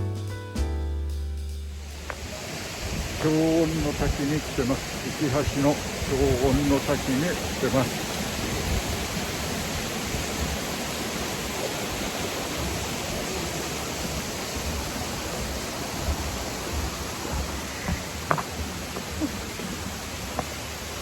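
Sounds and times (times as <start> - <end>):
waterfall rushing: 1.8 - 21.0.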